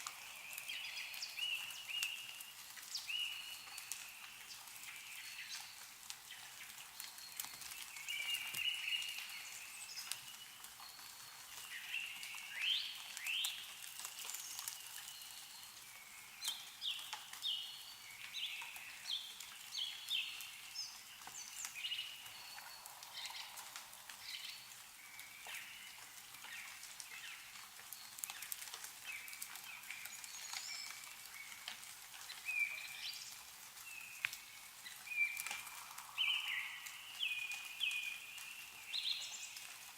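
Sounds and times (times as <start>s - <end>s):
meltwater dripping from trees: 0.0s - 39.9s
small birds chirping: 0.0s - 39.9s.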